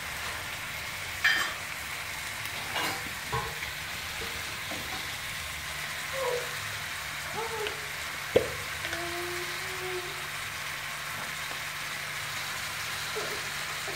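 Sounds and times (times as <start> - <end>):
vegetables sizzling in oil: 0.0 - 13.9.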